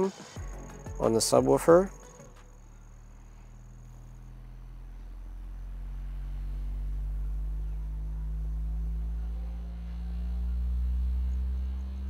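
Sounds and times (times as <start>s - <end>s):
subwoofer bass sweep hum: 0.0s - 12.0s.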